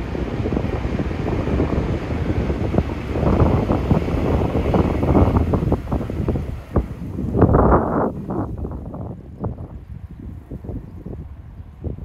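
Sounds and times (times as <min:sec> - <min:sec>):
train wheels rumbling on rail: 0:00.0 - 0:12.0
wind buffeting microphone: 0:00.0 - 0:12.0.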